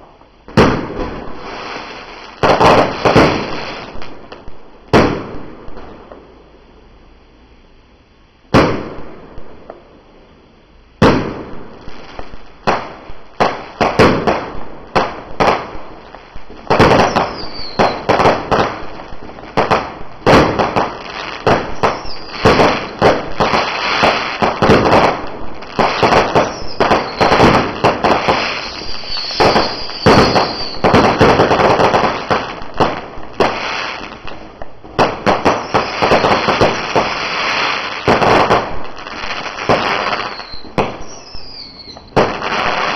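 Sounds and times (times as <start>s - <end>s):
fireworks falling whistles: 0.0s - 6.0s, 11.0s - 42.9s
fireworks pops and crackle: 0.0s - 6.4s, 8.5s - 10.0s, 11.0s - 42.9s.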